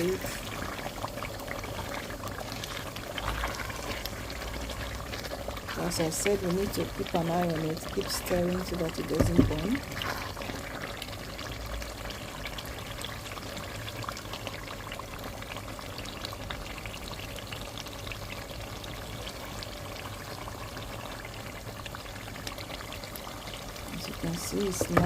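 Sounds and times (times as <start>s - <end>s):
stew sizzling in oil: 0.0s - 25.0s.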